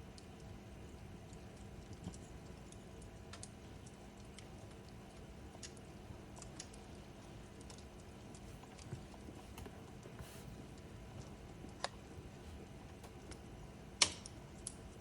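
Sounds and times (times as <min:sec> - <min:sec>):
fire crackling and popping: 0:00.1 - 0:15.0.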